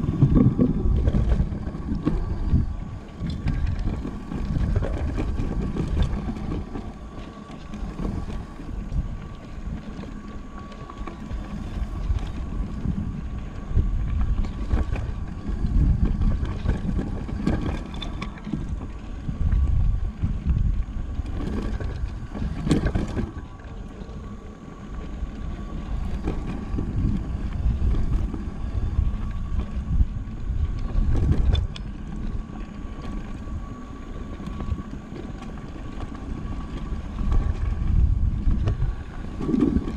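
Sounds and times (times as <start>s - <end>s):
bike rattling over bumps: 0.0s - 39.9s
bike tyres rumbling over dirt: 0.0s - 39.9s
faint steady whine: 0.0s - 39.9s
wind buffeting microphone: 0.0s - 39.9s.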